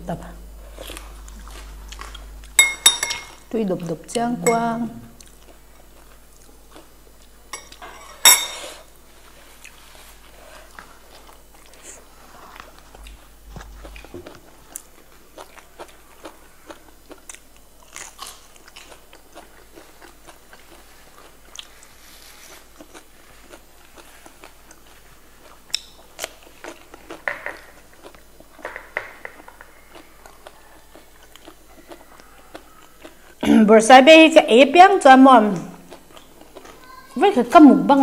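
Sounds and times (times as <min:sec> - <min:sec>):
crunching and chewing vegetables: 0:00.5 - 0:04.2, 0:05.0 - 0:33.4, 0:35.4 - 0:37.5.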